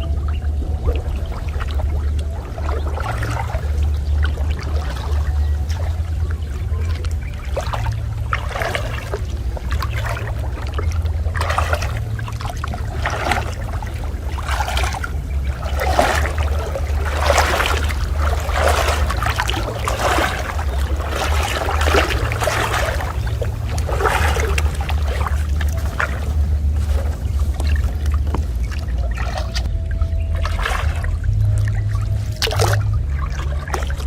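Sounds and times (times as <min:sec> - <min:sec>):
low rumble: 0:00.0 - 0:34.0
water sloshing and splashing: 0:00.0 - 0:34.0.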